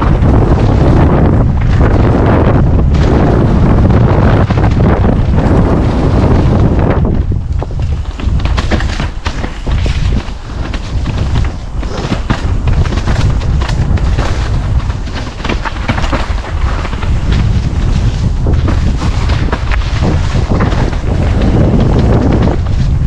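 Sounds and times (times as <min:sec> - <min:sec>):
wind buffeting microphone: 0:00.0 - 0:23.0
crackling clicks: 0:02.8 - 0:22.9.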